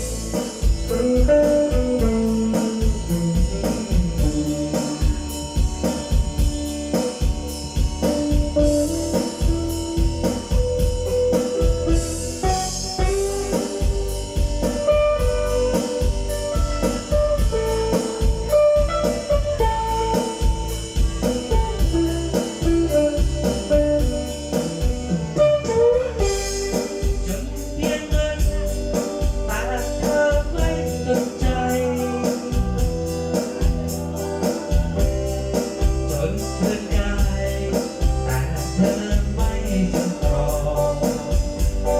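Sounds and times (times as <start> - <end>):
rock song over pa system: 0.0 - 41.9.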